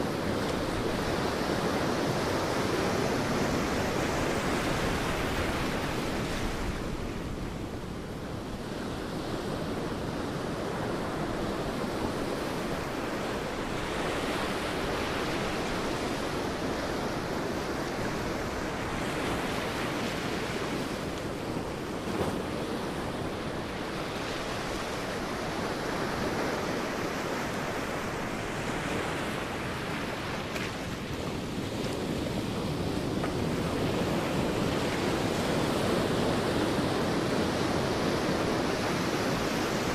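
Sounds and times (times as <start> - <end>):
sea waves breaking on a beach: 0.0 - 39.9
wind: 0.0 - 39.9.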